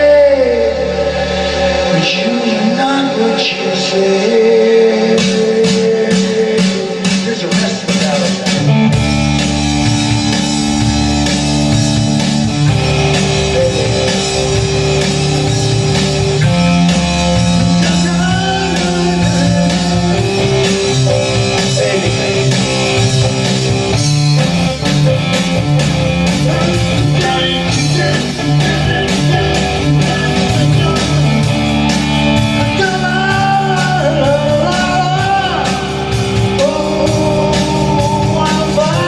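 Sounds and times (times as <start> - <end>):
drum kit: 0.0 - 39.0
electric guitar chords: 0.0 - 39.0.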